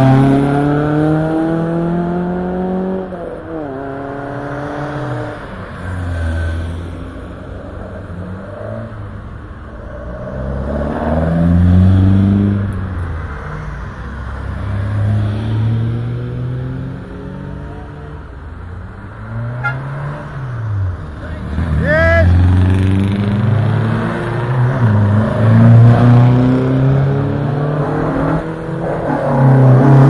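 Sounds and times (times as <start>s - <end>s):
cars accelerating past: 0.0s - 9.2s, 9.8s - 18.4s, 19.0s - 30.0s.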